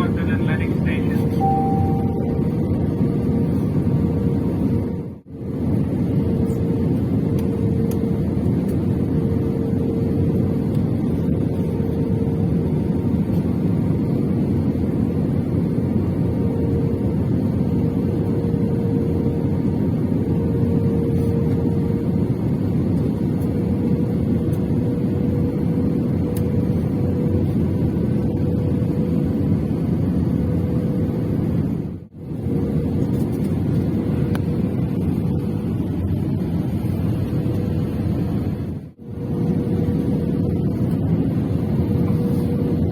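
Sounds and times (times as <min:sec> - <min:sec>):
airliner engine rumble in cabin: 0:00.0 - 0:42.9.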